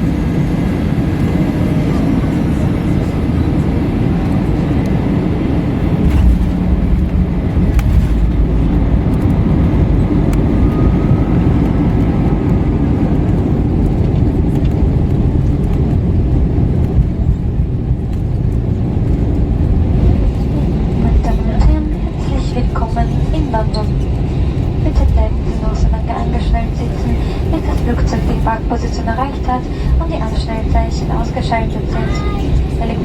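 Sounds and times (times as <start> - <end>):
aircraft engine noise: 0.0 - 33.0
airplane cabin rumble: 0.0 - 33.0.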